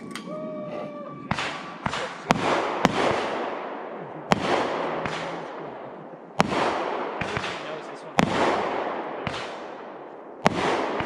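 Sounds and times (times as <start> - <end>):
firework bangs: 1.2 - 11.0.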